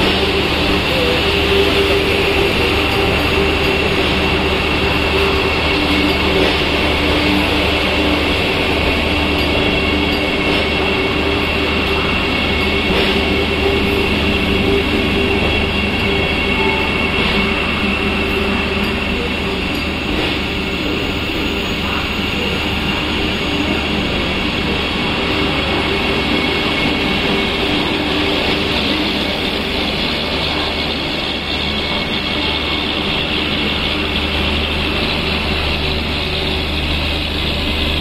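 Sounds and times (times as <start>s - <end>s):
train equipment hum: 0.0s - 38.0s.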